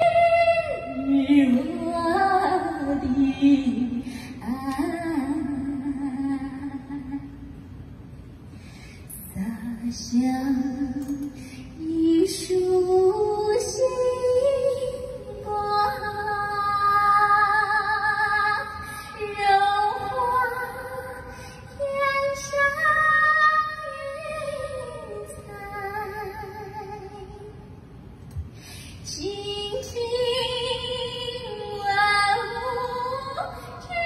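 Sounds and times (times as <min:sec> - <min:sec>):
woman singing into microphone: 0:00.0 - 0:07.4, 0:09.1 - 0:27.6, 0:29.0 - 0:34.0.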